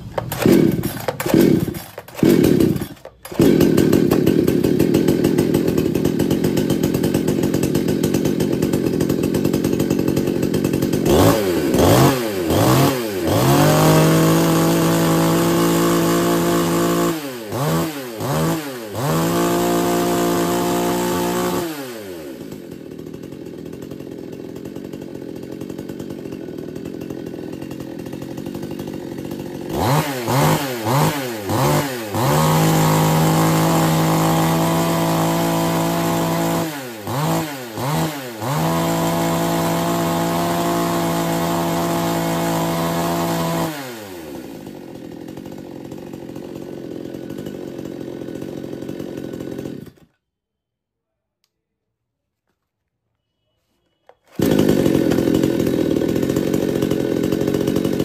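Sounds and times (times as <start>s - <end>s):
chainsaw engine revving and idling: 0.0s - 50.2s, 54.2s - 58.0s.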